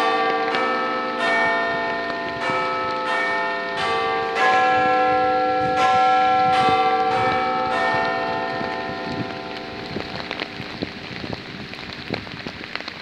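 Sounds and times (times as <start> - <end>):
church bells ringing: 0.0 - 11.2.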